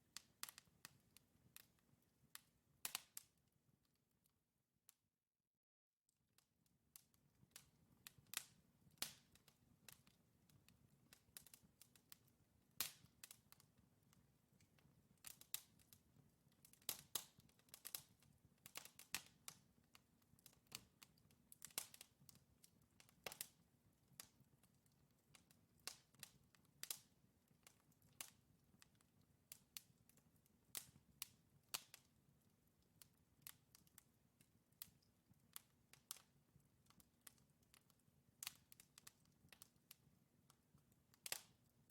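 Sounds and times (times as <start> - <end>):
wood fire crackling and popping: 0.0 - 3.4, 6.9 - 41.9.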